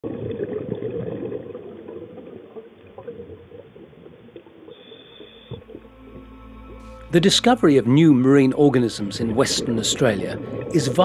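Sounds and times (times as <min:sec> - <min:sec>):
water bubbling and gurgling: 0:00.0 - 0:06.8, 0:07.8 - 0:11.0.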